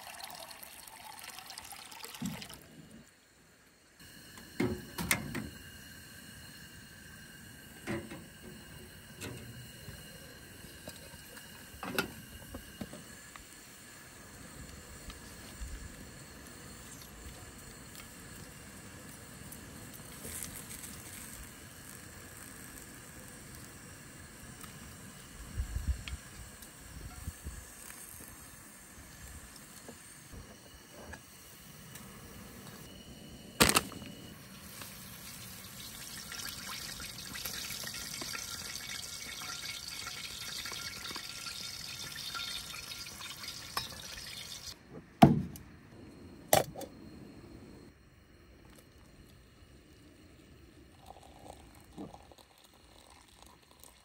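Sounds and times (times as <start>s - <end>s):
water boiling in pot: 0.0s - 44.8s, 48.6s - 54.0s.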